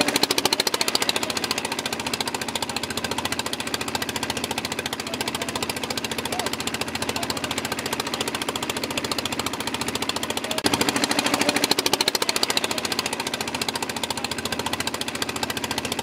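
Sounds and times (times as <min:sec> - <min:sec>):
motor boat engine knocking: 0:00.0 - 0:16.0.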